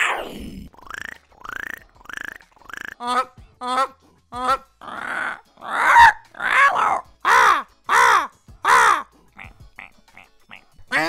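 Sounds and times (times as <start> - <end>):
man imitating goose honks: 1.6 - 11.0.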